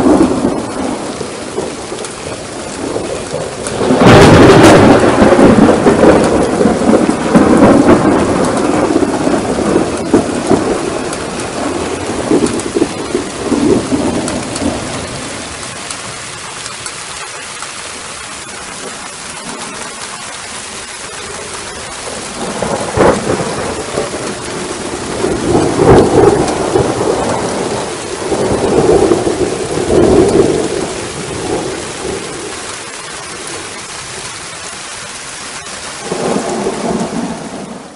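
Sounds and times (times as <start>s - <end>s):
steady rain: 0.0s - 37.9s
thunder crack and rumbles: 0.0s - 37.9s.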